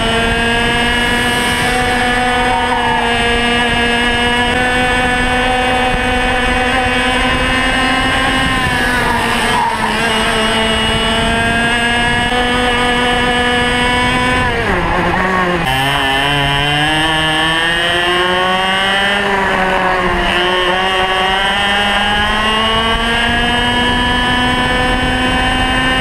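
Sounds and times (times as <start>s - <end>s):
kart engine buzzing at high revs: 0.0s - 26.0s.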